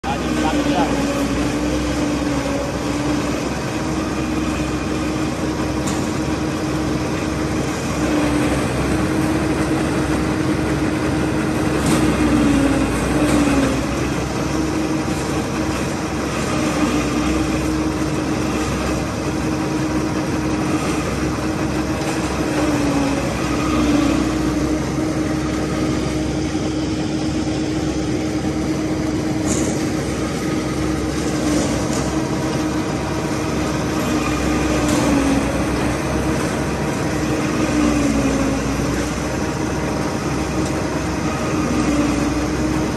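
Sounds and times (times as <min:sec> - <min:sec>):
forage chopper engines running: 0:00.0 - 0:42.9
steady machine hum: 0:00.0 - 0:42.9.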